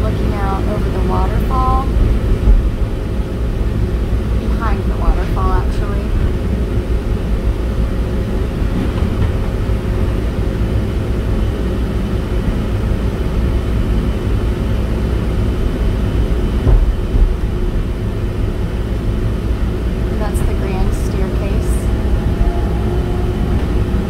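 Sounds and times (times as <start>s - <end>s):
tram bumps: 0.0s - 11.8s, 15.2s - 24.0s
faint steady whine: 0.0s - 24.0s
tram running gear rumble: 0.0s - 24.0s.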